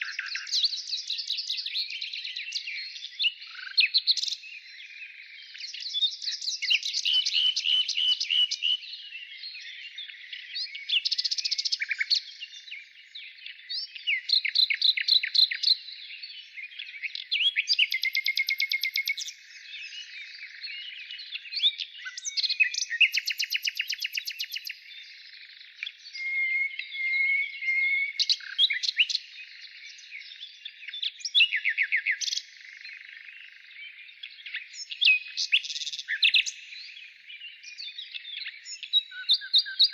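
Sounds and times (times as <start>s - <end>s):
faint bird chatter: 0.0s - 39.9s.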